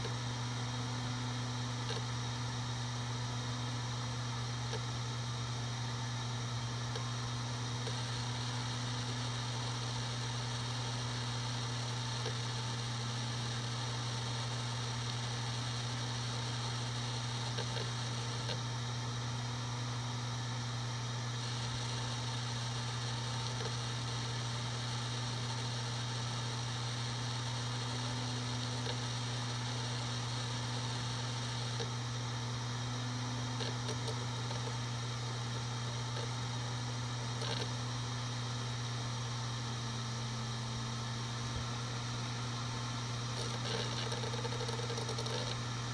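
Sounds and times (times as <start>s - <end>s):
hard drive spinning hum: 0.0s - 45.9s.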